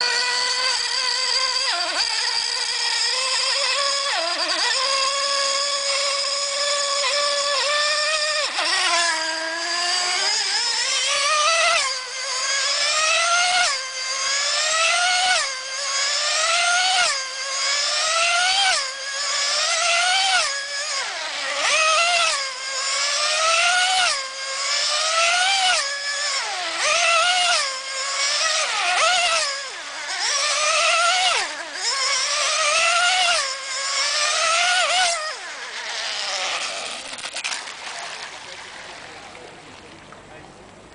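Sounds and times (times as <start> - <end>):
model boat engine screaming: 0.0 - 40.6.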